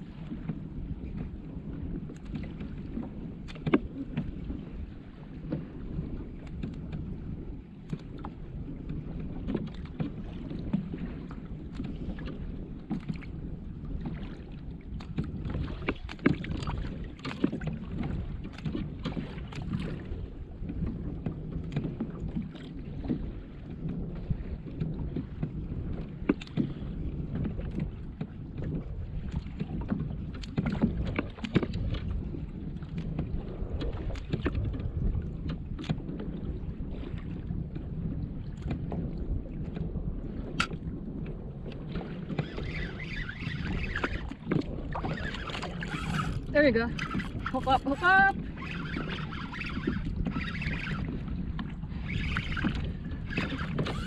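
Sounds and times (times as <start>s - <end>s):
water lapping against hull: 0.0s - 54.0s
wind on microphone: 0.0s - 54.0s.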